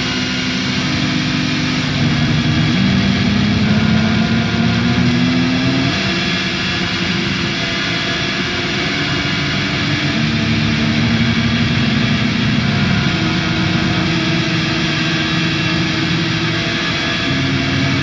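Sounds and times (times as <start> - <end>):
drone noise music: 0.0 - 18.0.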